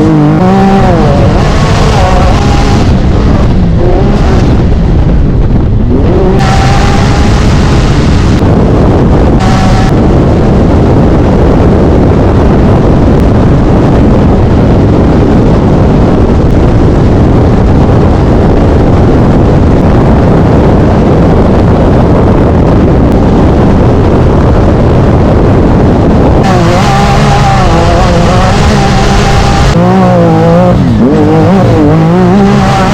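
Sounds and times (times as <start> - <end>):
off-road vehicle engine rumble: 0.0 - 32.9
wind buffeting microphone: 0.0 - 32.9.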